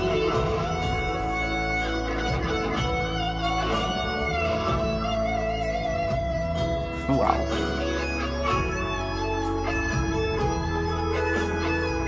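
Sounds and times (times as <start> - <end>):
guitar playing melodic notes: 0.0 - 12.0
steady bass line: 0.0 - 12.0.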